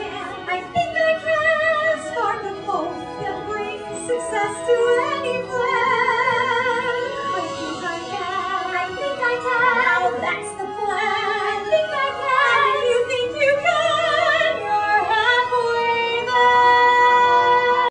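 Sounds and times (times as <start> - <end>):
instrumental accompaniment: 0.0 - 17.9
woman singing with vibrato: 0.0 - 17.9.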